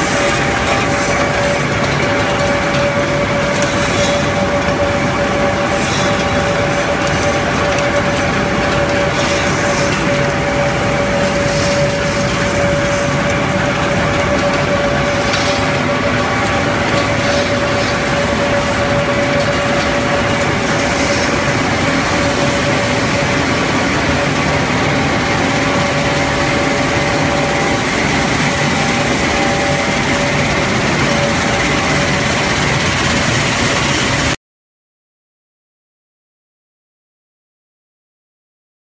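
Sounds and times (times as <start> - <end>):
pellets rattling on conveyors: 0.0 - 34.3
factory machinery din with whine: 0.0 - 34.4.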